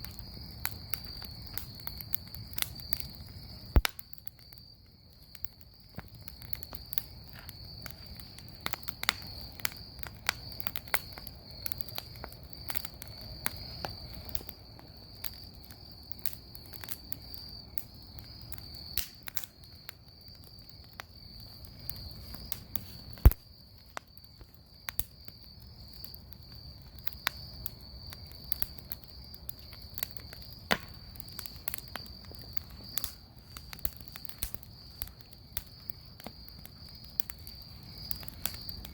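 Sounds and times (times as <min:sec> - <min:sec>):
bonfire crackling and popping: 0:00.0 - 0:38.9
high-pitched insect chorus: 0:00.0 - 0:38.9.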